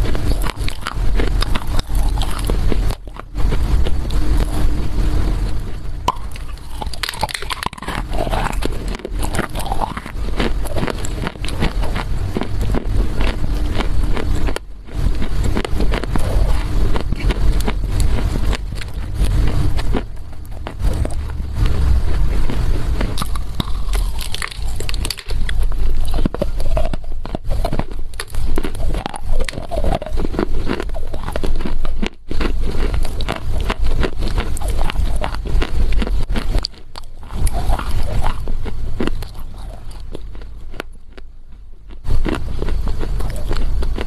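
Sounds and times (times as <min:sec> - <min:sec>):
clay being chewed crunching: 0:00.0 - 0:44.0.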